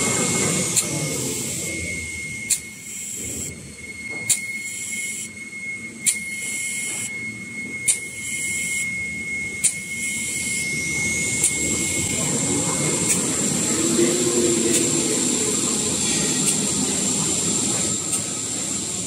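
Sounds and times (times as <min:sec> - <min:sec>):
machine whine over low rumble: 0:00.0 - 0:19.0.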